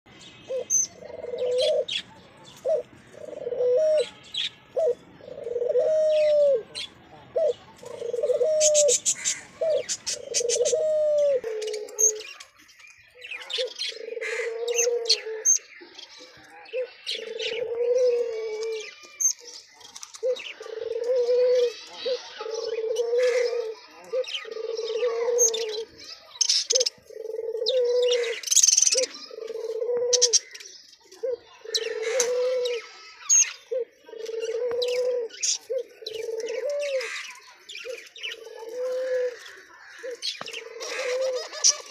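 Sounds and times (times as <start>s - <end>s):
small birds chirping: 0.1s - 41.9s
doves cooing: 0.4s - 12.6s, 13.2s - 19.1s, 20.0s - 26.0s, 26.6s - 41.9s.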